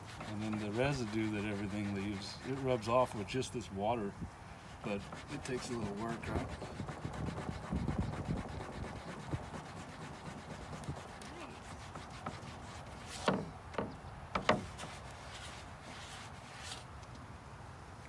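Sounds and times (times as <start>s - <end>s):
wet cloth scrubbing a panel: 0.0s - 3.4s, 4.7s - 16.8s.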